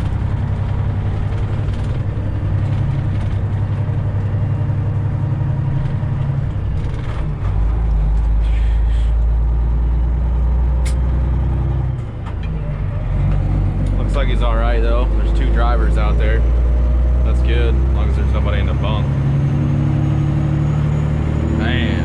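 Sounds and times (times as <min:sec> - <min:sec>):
truck diesel engine drone: 0:00.0 - 0:22.0.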